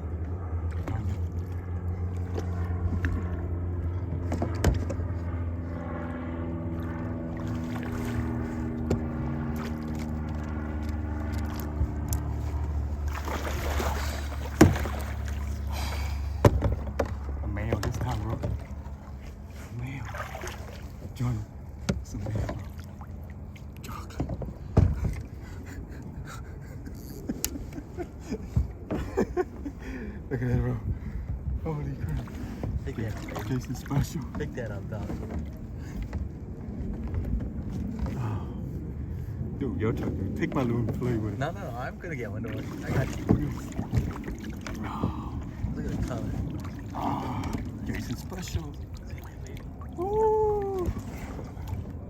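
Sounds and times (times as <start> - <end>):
boat motor humming: 0.0 - 52.0
low rumble: 0.0 - 52.0
scrapes and knocks in kayak: 0.8 - 5.9, 6.8 - 25.9, 26.8 - 29.8, 30.4 - 38.9, 39.9 - 49.6.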